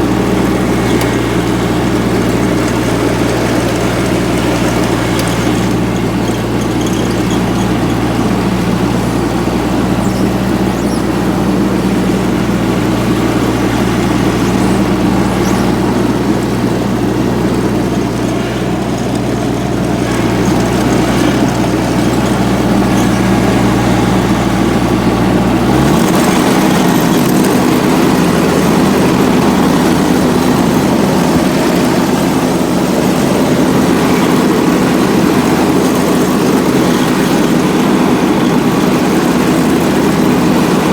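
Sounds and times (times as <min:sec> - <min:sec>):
mower diesel engine running: 0:00.0 - 0:40.9.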